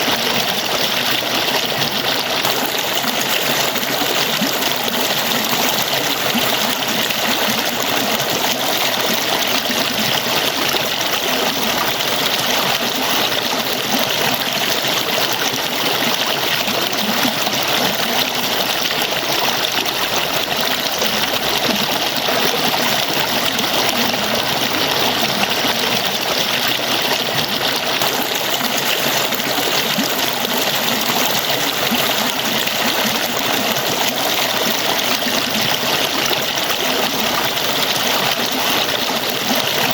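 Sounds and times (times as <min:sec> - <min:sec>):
water falling and splashing: 0:00.0 - 0:39.9.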